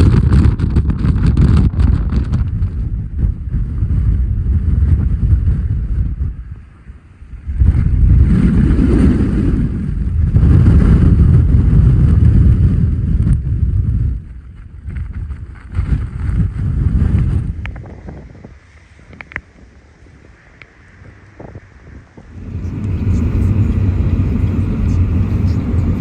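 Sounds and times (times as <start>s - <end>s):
strong wind gusts buffeting car: 0.0s - 26.0s.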